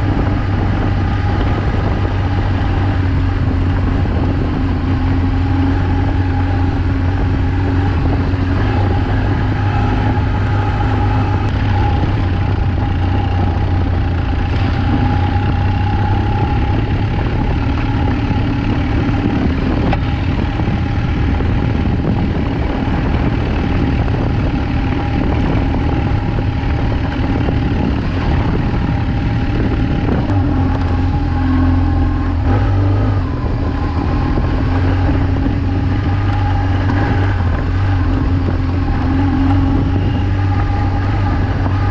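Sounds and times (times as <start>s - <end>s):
motorcycle engine at low revs: 0.0s - 41.9s
road and wind noise: 0.0s - 41.9s.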